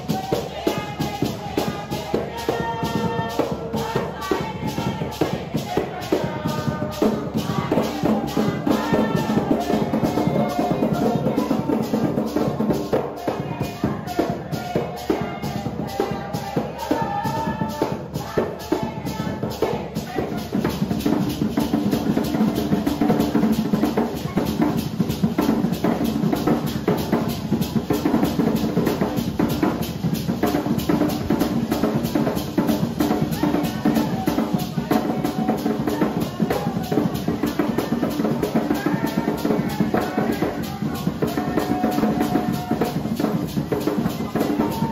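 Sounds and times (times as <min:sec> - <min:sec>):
hand drums played fast: 0:00.0 - 0:44.9
maracas shaking: 0:00.0 - 0:44.9
people singing: 0:00.0 - 0:44.9.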